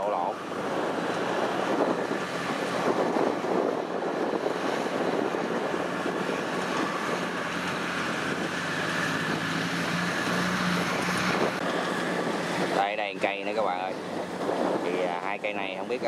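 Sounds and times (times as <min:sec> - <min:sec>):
combine harvester engine running: 0:00.0 - 0:14.8
wind noise on microphone: 0:00.0 - 0:16.0.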